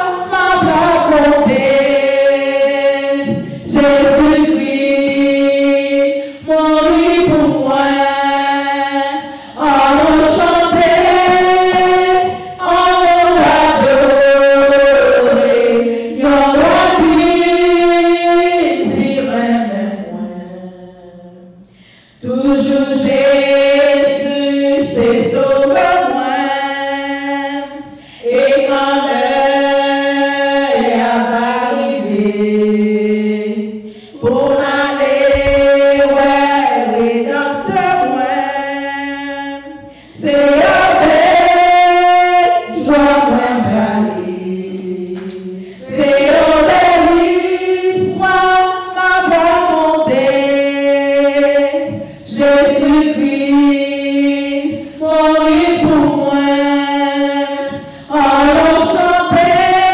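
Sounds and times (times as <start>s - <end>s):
woman singing unaccompanied: 0.0s - 21.3s, 22.2s - 59.9s.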